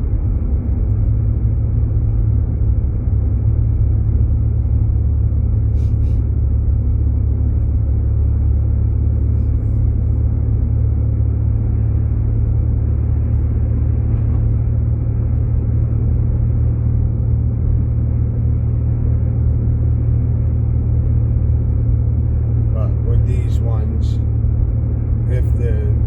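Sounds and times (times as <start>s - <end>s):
car cabin road and engine noise: 0.0s - 26.0s.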